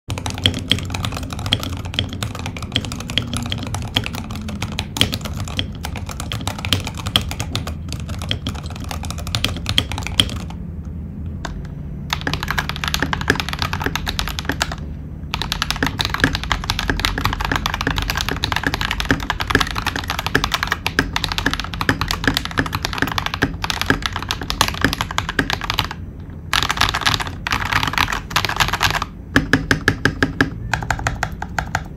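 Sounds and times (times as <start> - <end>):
typing on mechanical keyboard: 0.1 - 10.6, 12.1 - 31.9.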